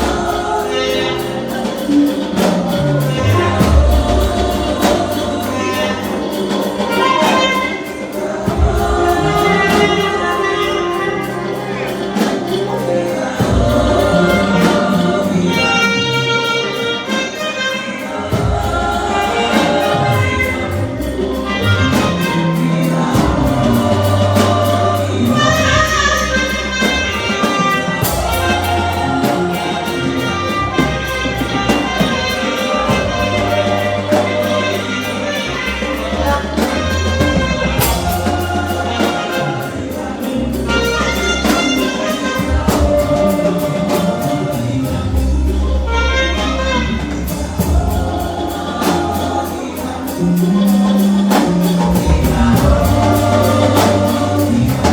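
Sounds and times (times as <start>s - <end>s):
moving bass line: 0.0s - 16.8s, 18.1s - 54.9s
gospel singing over a band: 0.0s - 54.9s.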